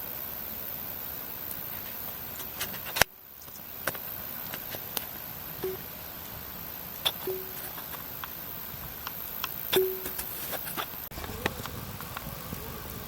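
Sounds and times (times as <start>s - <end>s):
steady hiss: 0.0s - 13.0s
campfire crackling and popping: 1.1s - 13.0s.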